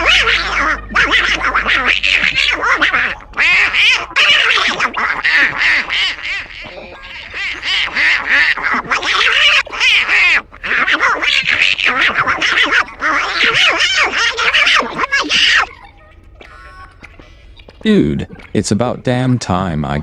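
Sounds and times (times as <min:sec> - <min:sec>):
garbled quacking voice babbling: 0:00.0 - 0:20.0.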